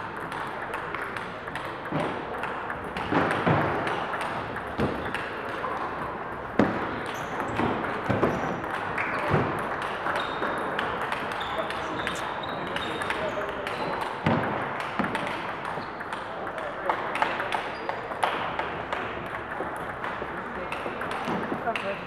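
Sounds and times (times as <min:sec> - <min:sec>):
table tennis balls clicking: 0:00.0 - 0:22.0.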